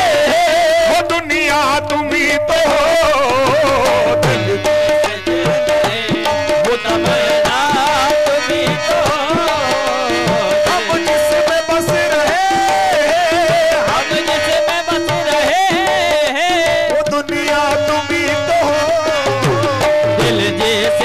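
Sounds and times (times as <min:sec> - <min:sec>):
person singing ornamented lines: 0:00.0 - 0:21.0
tabla beats: 0:00.0 - 0:21.0.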